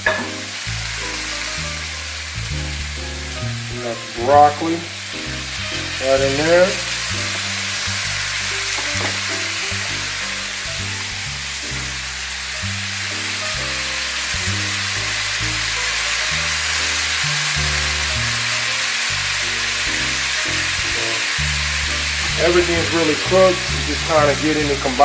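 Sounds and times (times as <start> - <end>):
background music with bass: 0.0 - 25.0
food sizzling in a pan: 0.0 - 25.0.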